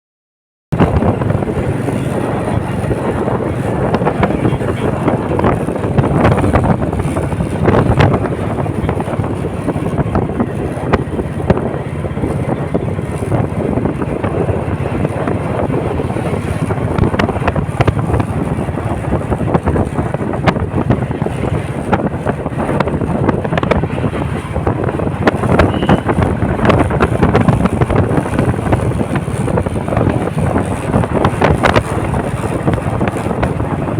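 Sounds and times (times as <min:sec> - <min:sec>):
wind buffeting microphone: 0:00.7 - 0:33.9.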